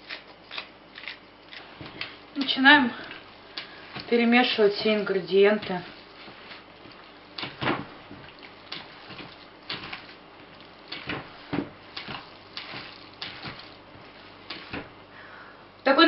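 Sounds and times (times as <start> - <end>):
hands squishing minced meat: 0.0 - 15.1.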